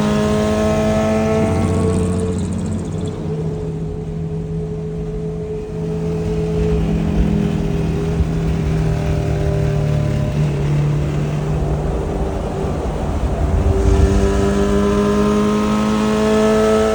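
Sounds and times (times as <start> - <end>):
motorcycle engine cruising: 0.0 - 16.9.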